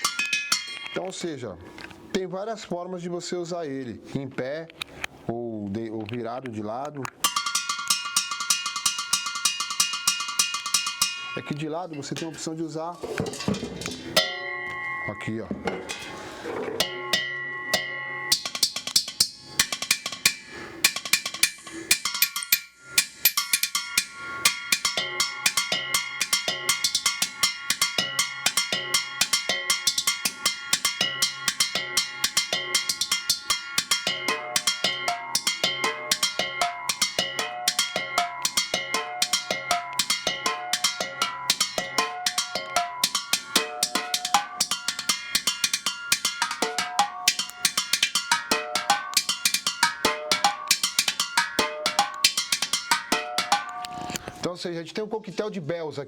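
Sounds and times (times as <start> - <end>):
metal bells struck with drumsticks: 0.0 - 1.3, 7.2 - 12.3, 13.3 - 16.2, 16.8 - 54.3.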